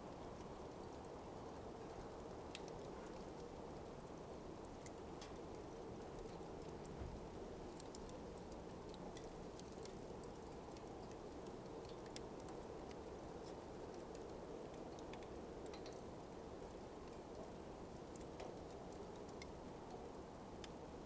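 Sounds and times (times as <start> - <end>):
coals crackling and popping: 0.0 - 21.0.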